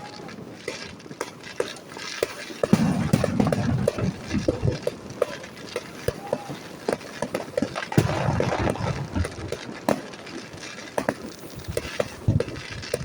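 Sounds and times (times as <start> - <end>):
fireworks bangs and pops: 0.0 - 13.0
fireworks crackle: 0.0 - 13.0.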